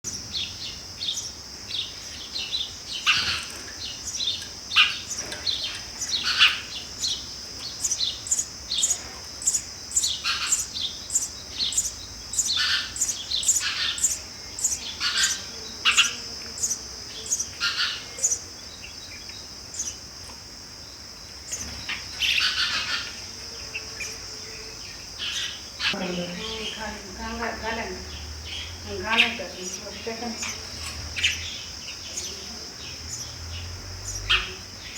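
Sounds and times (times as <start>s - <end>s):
high-pitched insect drone: 0.1s - 20.1s, 20.8s - 34.9s
sparrows chirping: 0.1s - 34.9s.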